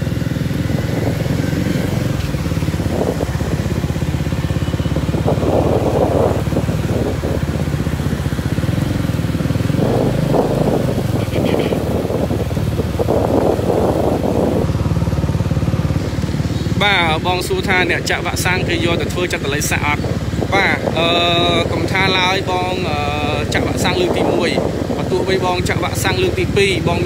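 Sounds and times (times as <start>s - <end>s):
small motorcycle engines running: 0.0s - 27.0s.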